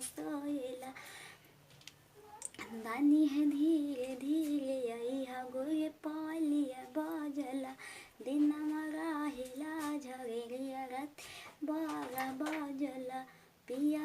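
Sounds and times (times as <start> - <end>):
woman singing unaccompanied: 0.0 - 1.1, 2.6 - 14.0.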